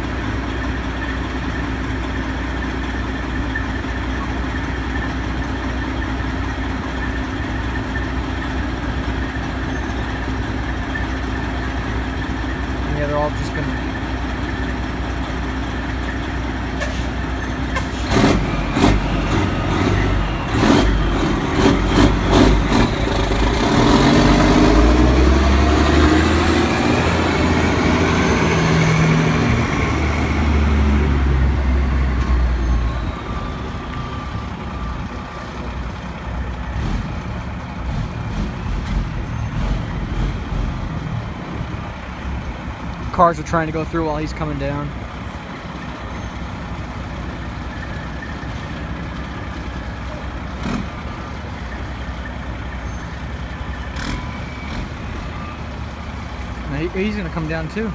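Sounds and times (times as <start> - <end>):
diesel truck engine pulling: 0.0 - 57.9.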